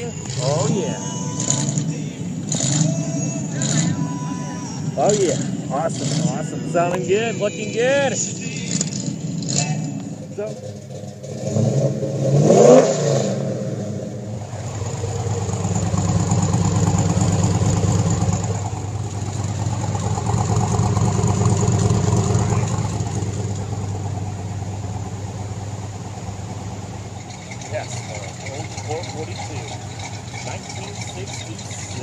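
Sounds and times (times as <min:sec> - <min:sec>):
car engine revving and running: 0:00.0 - 0:32.0.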